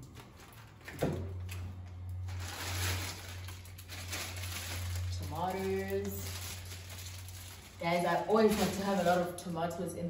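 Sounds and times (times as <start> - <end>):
plastic bags rustling: 0.0 - 9.5
low steady hum: 0.0 - 10.0.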